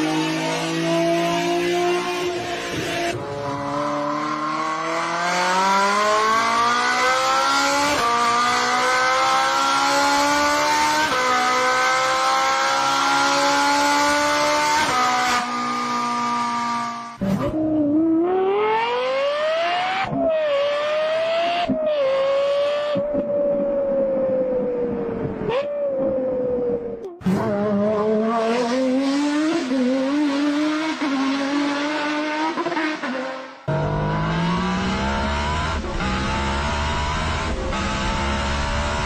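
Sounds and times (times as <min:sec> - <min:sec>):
racing car engine accelerating: 0:00.0 - 0:39.0.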